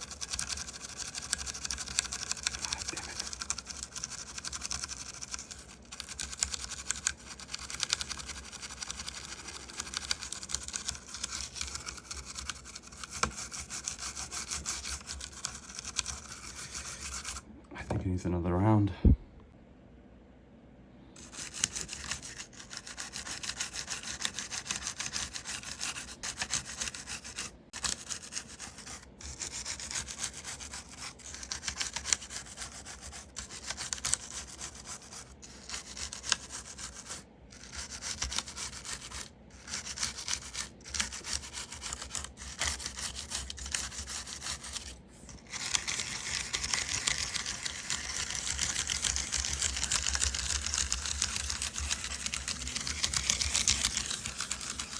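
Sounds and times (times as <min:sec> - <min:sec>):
brush scrubbing keyboard: 0:00.0 - 0:17.4, 0:21.2 - 0:54.9.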